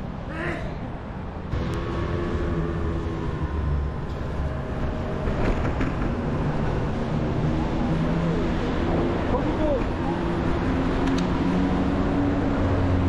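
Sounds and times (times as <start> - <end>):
vehicle engines humming: 0.0 - 13.0.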